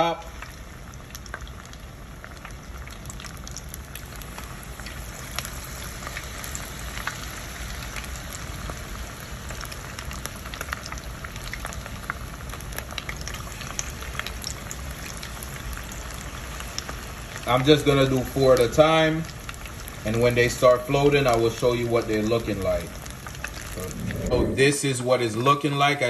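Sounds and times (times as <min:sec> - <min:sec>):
sharp crackles and pops: 0:00.0 - 0:24.6
food deep-frying in oil: 0:00.0 - 0:26.0.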